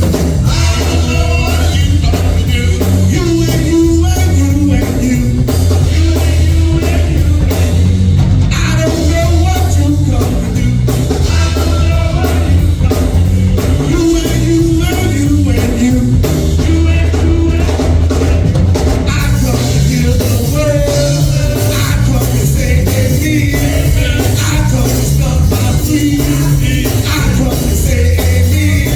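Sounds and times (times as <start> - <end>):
live band with drums and bass: 0.0 - 28.9
worship singing: 0.0 - 28.9.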